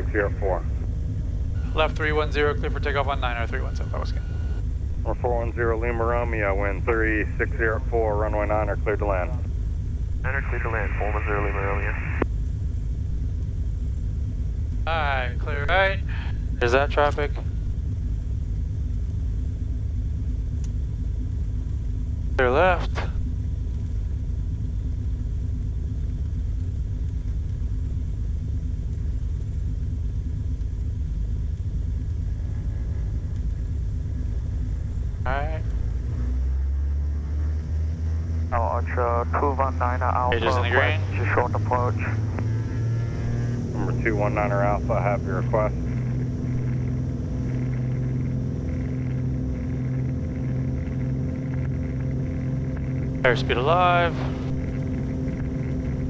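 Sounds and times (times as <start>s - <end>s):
aircraft piston engines droning: 0.0s - 56.0s.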